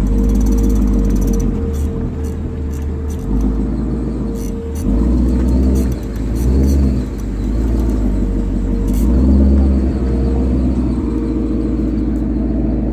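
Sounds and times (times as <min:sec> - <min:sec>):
car creaking: 0:00.0 - 0:12.9
car engine rumbling: 0:00.0 - 0:12.9.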